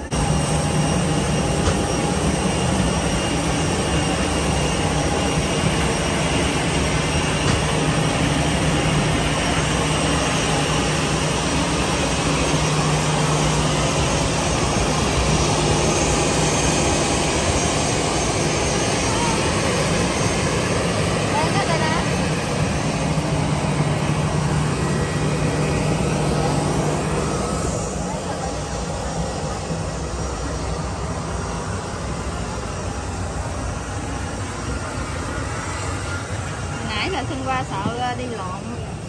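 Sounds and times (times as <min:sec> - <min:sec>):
jet airliner engine hum and whine: 0:00.0 - 0:39.0.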